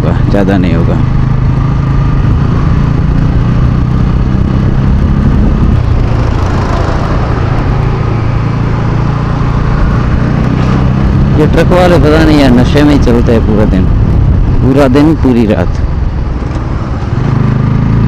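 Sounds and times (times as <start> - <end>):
motorcycle engine cruising: 0.0 - 18.0
wind and road rush: 0.0 - 18.0.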